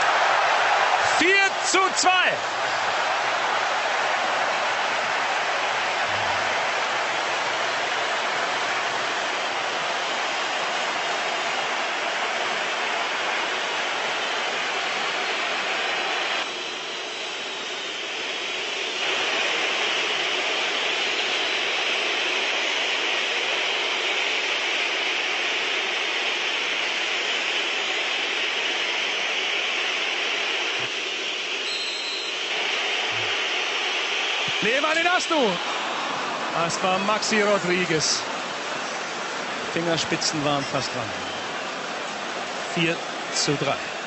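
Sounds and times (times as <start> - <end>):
crowd whistling: 0.0 - 44.0
stadium crowd roaring: 0.0 - 44.0.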